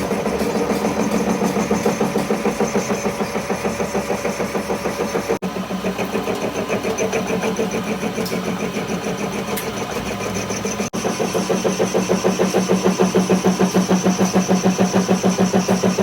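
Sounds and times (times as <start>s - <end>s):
engine running with fast pulse: 0.0s - 16.0s.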